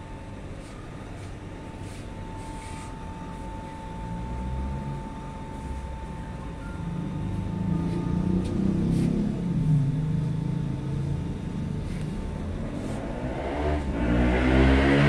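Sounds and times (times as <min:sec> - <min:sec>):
faint high hum: 0:00.0 - 0:14.0
vehicle engine rumble: 0:00.0 - 0:15.0.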